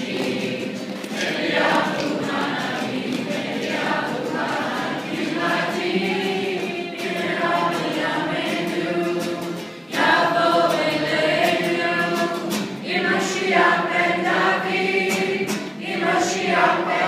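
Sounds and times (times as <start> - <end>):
congregation singing: 0.0 - 17.0.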